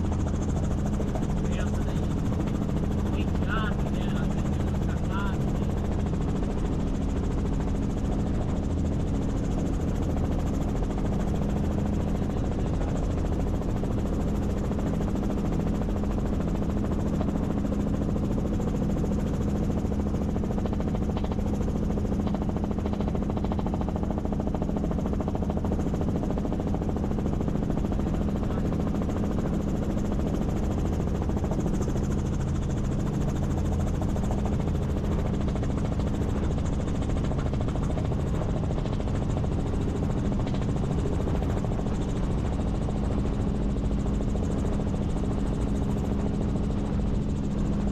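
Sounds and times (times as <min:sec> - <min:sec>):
helicopter rotor and engine hum: 0:00.0 - 0:47.9.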